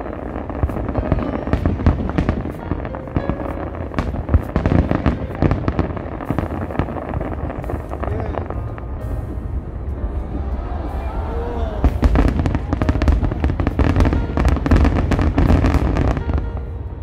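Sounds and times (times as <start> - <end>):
fireworks popping and crackling: 0.0 - 9.4, 11.8 - 16.6
low rumble: 0.0 - 17.0.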